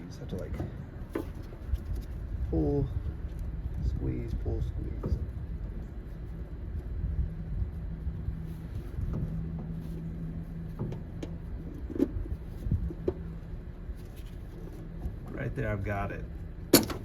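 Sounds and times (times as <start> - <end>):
low hum and rumble: 0.0 - 17.0.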